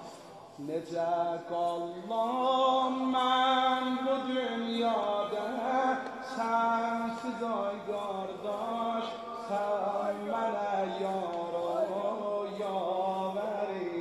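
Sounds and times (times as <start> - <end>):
man singing lament: 0.0 - 14.0.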